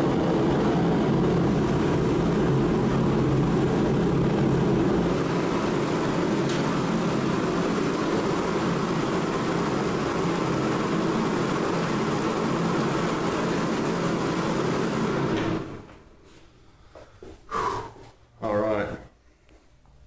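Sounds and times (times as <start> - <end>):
forced-air heater running: 0.0 - 20.0.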